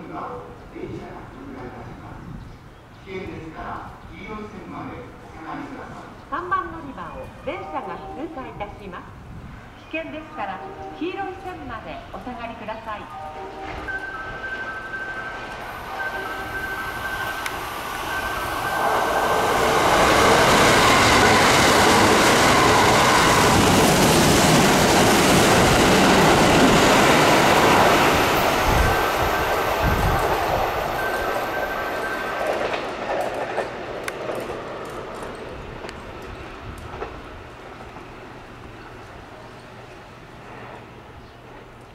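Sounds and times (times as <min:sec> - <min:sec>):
train passing at speed: 0:00.0 - 0:41.9.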